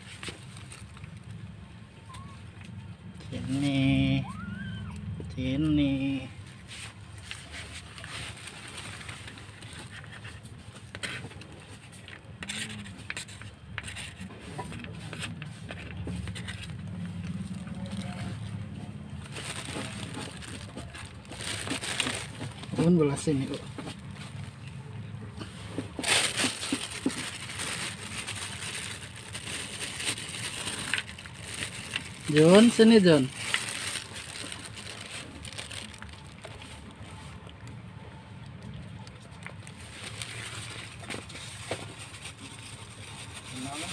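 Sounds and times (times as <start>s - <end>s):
cats crunching dry kibble: 0.0s - 43.9s.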